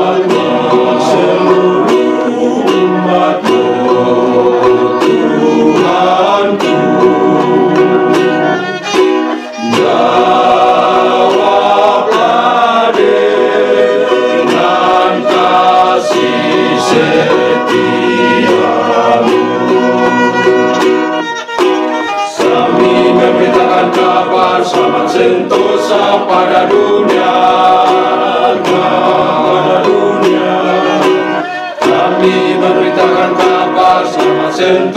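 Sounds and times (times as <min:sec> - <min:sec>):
men's choir singing in harmony: 0:00.0 - 0:21.3, 0:22.3 - 0:34.9
plucked small string instrument: 0:00.0 - 0:34.9
violin: 0:00.0 - 0:34.9.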